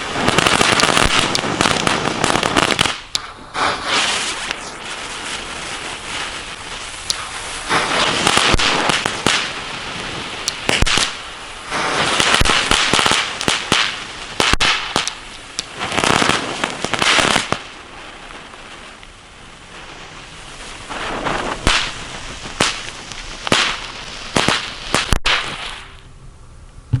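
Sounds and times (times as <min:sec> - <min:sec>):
sharp firework cracks: 0:00.0 - 0:26.1
fireworks hissing and crackling: 0:00.0 - 0:26.2.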